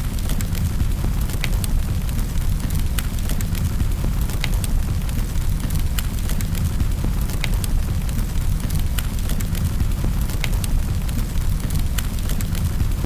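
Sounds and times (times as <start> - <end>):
fire crackles and pops: 0.0 - 13.0.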